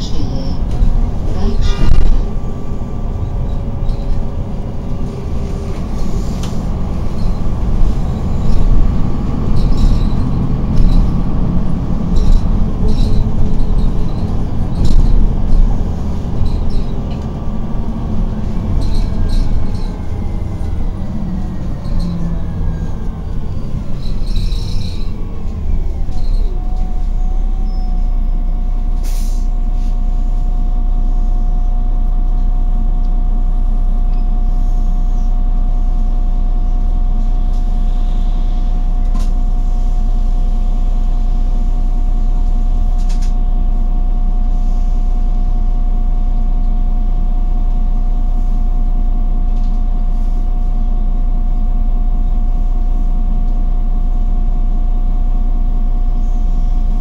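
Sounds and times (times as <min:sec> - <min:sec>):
bus engine: 0:00.0 - 0:57.0
road noise: 0:00.0 - 0:57.0.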